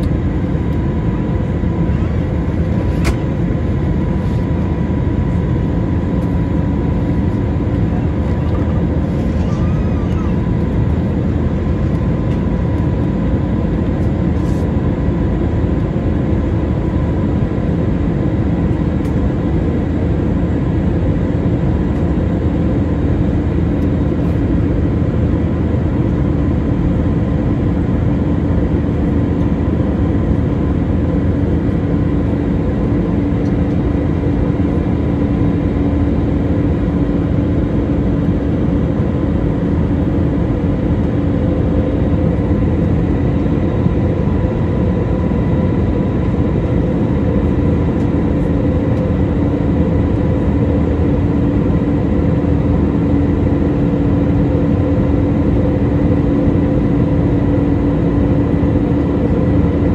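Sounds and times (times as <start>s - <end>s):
engine and airflow rush: 0.0s - 59.9s.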